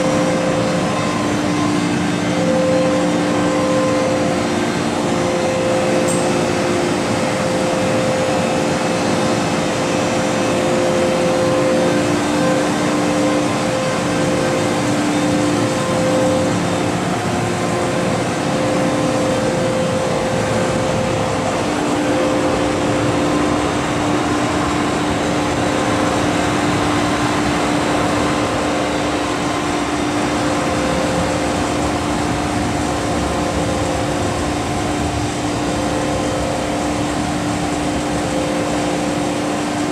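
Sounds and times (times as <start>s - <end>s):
electric train rumbling: 0.0s - 39.9s
low hum tone: 0.0s - 39.9s.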